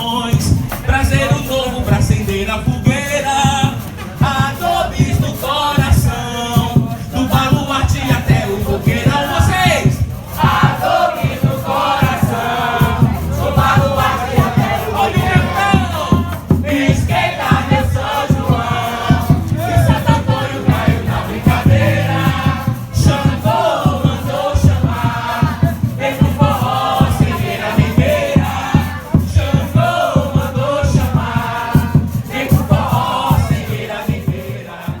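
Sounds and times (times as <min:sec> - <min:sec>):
crowd singing along: 0:00.0 - 0:35.0
quick drum beat: 0:00.0 - 0:35.0.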